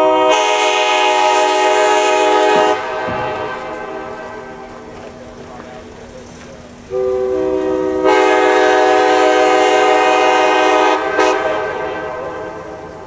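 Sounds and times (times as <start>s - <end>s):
locomotive air horn chord: 0.0s - 4.9s, 6.9s - 13.0s.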